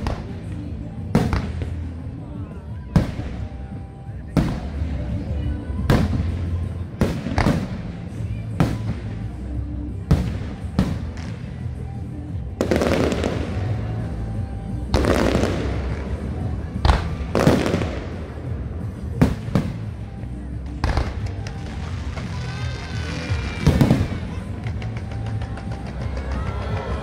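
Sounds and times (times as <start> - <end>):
fireworks bursting: 2.9 - 27.0.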